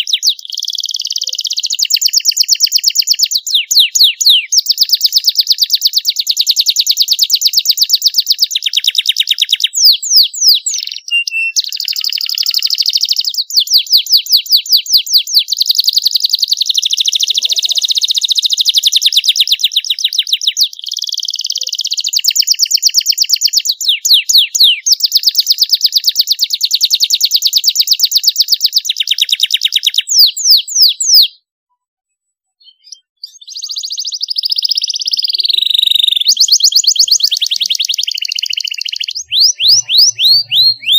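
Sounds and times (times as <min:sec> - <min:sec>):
canary singing trills: 0:00.0 - 0:31.5, 0:32.6 - 0:40.9.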